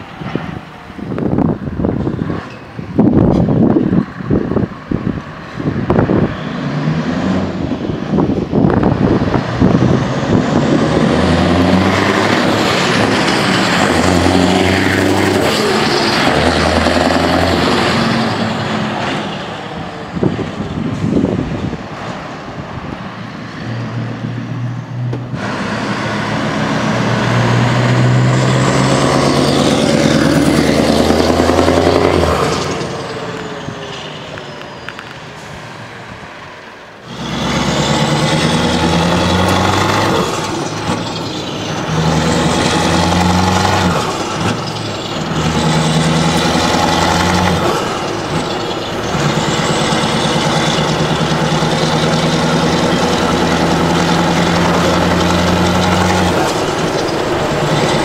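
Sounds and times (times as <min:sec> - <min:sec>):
truck engine accelerating: 0:00.0 - 0:58.0.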